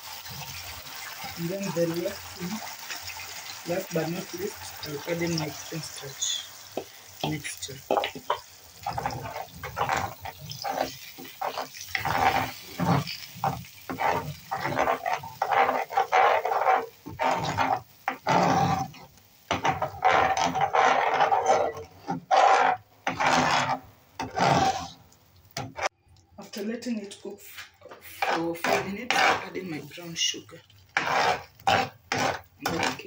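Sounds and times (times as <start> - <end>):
metal spoon scraping a frying pan: 0.2 - 25.0, 27.8 - 33.0.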